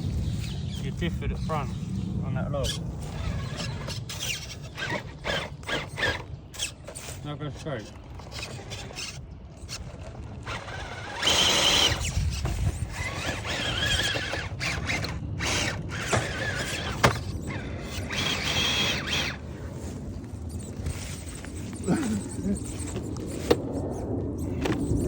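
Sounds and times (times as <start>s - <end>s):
rc car motor whining: 2.6s - 25.0s.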